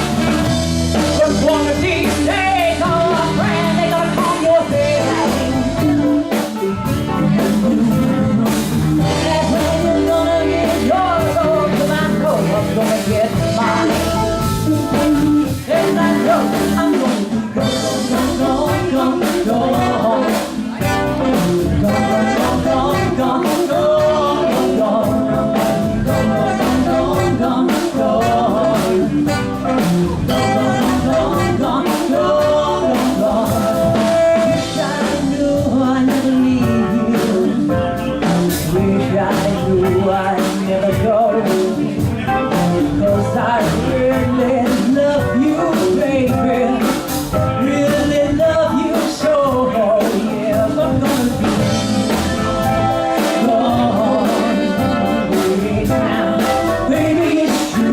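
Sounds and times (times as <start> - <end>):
blues-rock band playing: 0.0 - 57.9
drum kit beat: 0.0 - 57.9.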